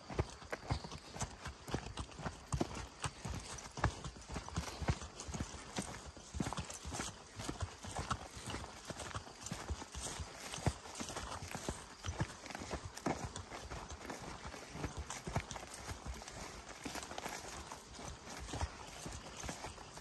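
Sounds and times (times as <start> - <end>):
footsteps on forest path: 0.0 - 20.0.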